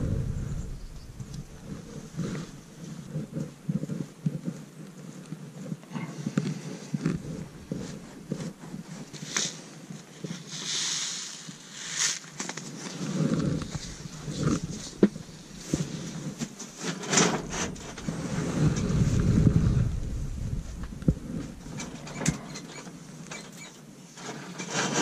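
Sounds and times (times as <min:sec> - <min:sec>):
hands working in loose soil: 0:00.0 - 0:25.0.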